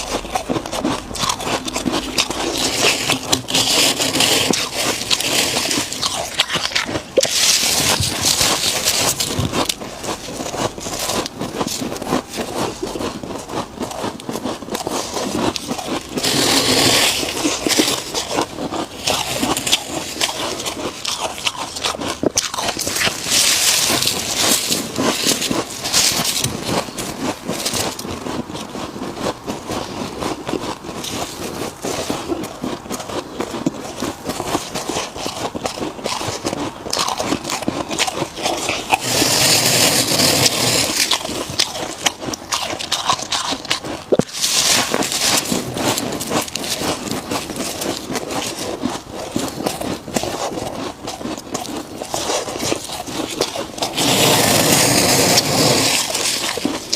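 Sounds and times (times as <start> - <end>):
crunching and chewing frost: 0.0 - 56.9.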